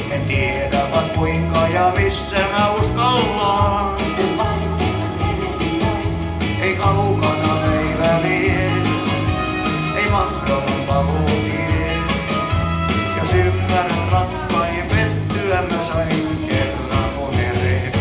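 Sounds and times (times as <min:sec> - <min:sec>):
rock and roll music: 0:00.0 - 0:18.0.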